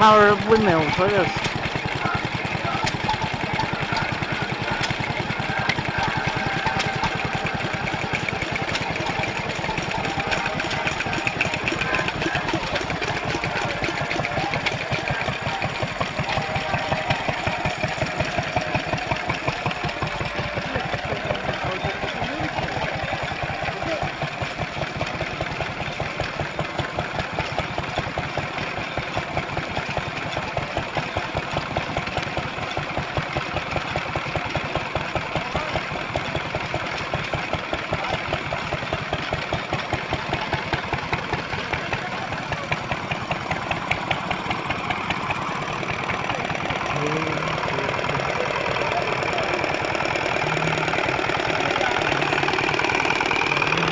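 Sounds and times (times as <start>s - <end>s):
stationary engines running: 0.0s - 53.9s.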